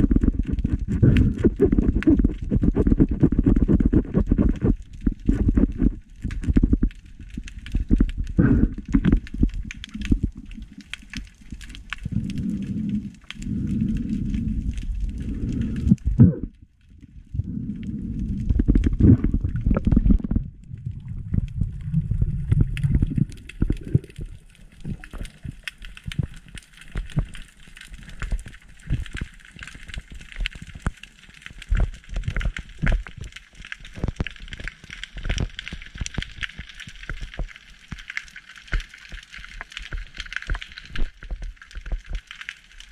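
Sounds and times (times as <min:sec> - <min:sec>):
dense crackle of clicks: 0:00.0 - 0:42.9
underwater water rushing: 0:00.0 - 0:42.9.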